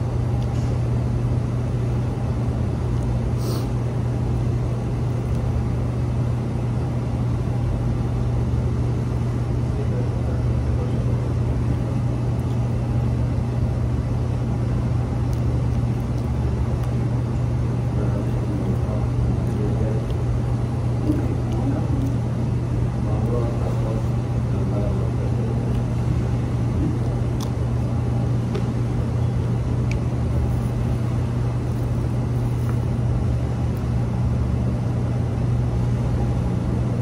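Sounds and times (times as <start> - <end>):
steady low drone: 0.0 - 37.0.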